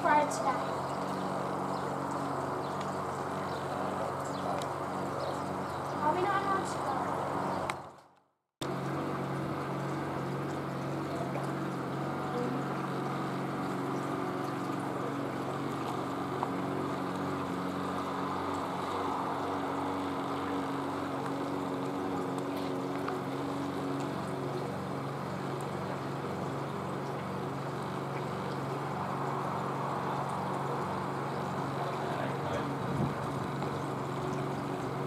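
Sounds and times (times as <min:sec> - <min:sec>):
engine-like drone: 0:00.0 - 0:35.0.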